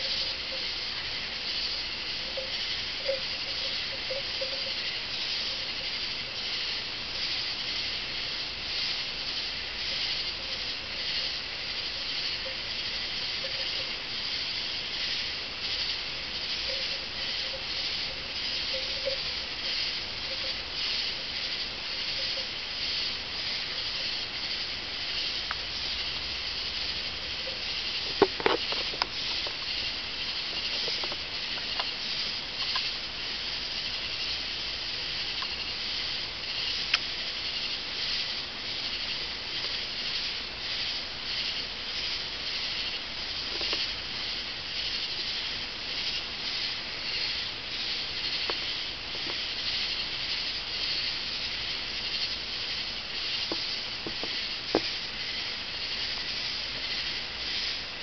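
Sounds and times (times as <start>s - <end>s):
insects hissing: 0.0s - 58.0s.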